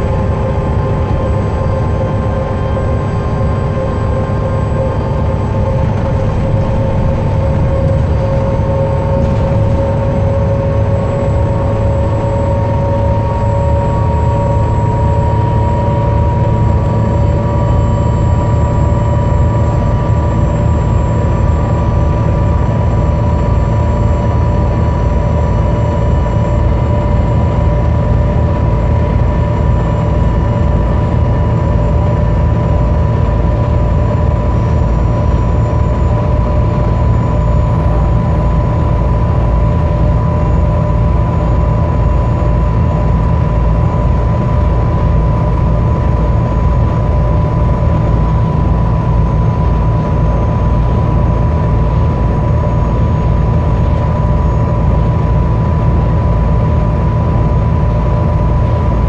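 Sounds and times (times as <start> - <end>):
bus engine drone: 0.0 - 59.0
drivetrain whine: 0.0 - 59.0.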